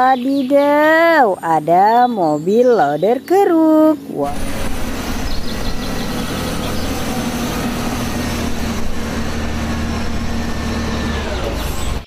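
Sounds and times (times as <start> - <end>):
diesel engine running under load: 0.1 - 12.0.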